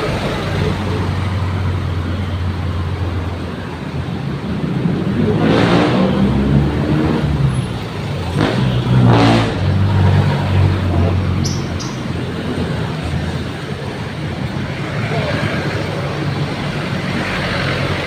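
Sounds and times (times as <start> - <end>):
traffic engines humming: 0.0 - 18.0
vehicles passing close by: 0.0 - 18.0.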